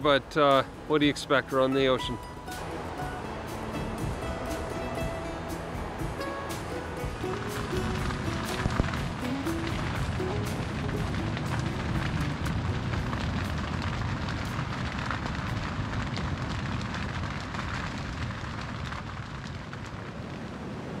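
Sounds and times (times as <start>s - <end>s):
strong wind rumbling: 2.1s - 21.0s.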